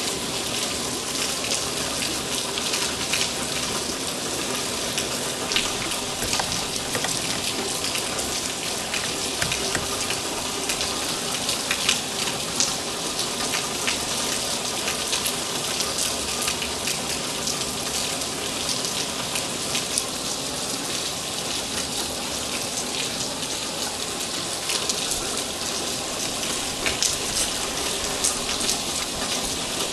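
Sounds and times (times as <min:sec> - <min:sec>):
raindrops ticking on a surface: 0:00.0 - 0:29.9
steady rain: 0:00.0 - 0:29.9.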